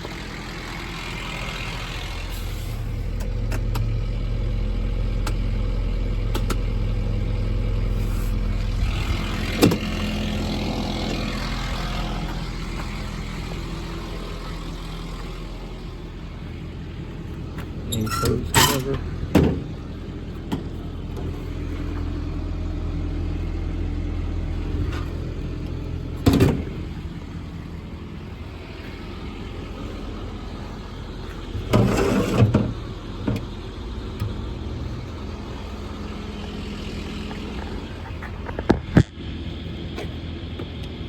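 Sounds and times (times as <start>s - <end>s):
diesel engine idling: 0.0s - 41.0s
engine knocks and clatter: 0.0s - 41.0s.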